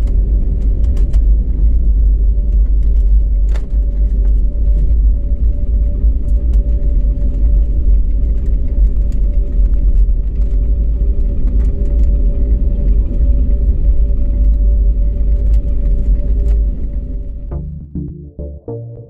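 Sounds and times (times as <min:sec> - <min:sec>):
low rumble of engines and wheels: 0:00.0 - 0:18.8.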